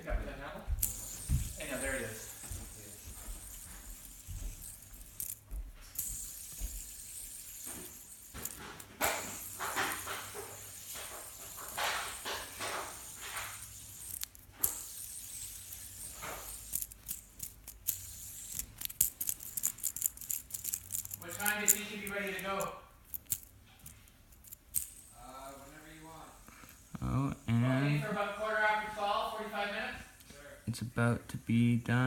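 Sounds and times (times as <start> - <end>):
steady high hiss: 0.7 - 19.7, 24.8 - 32.0
fidget spinner clicks and rattles: 0.8 - 27.5.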